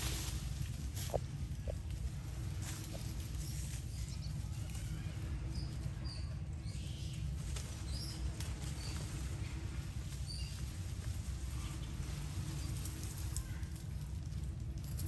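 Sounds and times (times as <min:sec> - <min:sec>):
faint pattering in dry leaves: 0:00.0 - 0:15.0
low rumble: 0:00.0 - 0:15.0.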